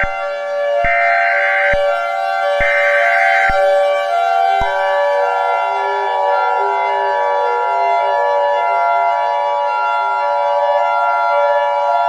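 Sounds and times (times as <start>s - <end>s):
warning siren chord: 0.0s - 12.0s.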